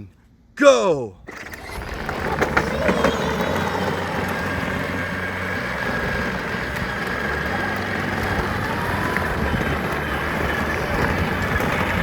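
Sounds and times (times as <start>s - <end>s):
electric toy car motor whine: 1.3s - 12.0s
wheels rolling on ground: 1.3s - 12.0s.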